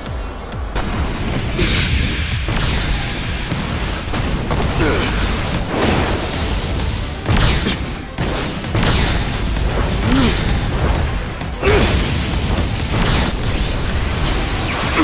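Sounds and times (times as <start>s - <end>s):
fight scene music: 0.0s - 15.0s
booming blast effects: 0.8s - 15.0s.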